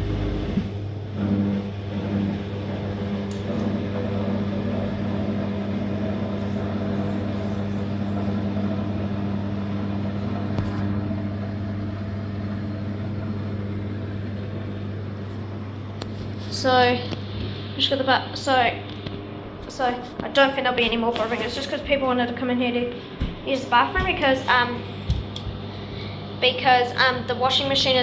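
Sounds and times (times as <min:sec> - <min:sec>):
washing machine drain pump humming: 0:00.0 - 0:28.0.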